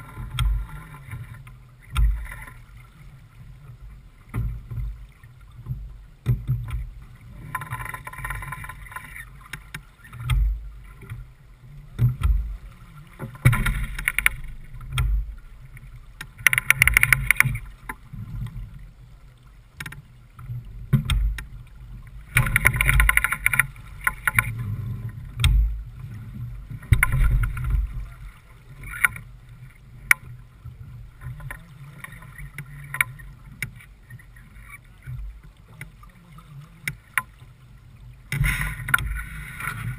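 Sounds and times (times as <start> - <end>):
water rushing along a hull: 0.0 - 39.9.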